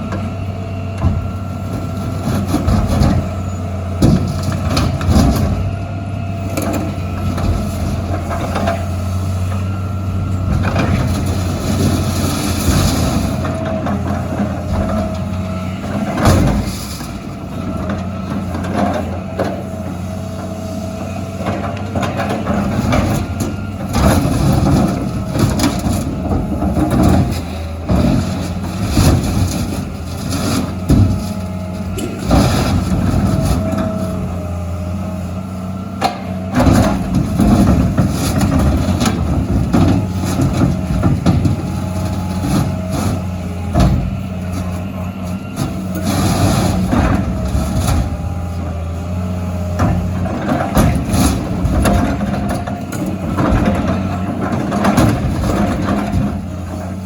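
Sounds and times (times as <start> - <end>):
diesel excavator engine running: 0.0 - 57.0
metal dumpsters crushed with bangs: 1.0 - 9.0, 9.9 - 57.0.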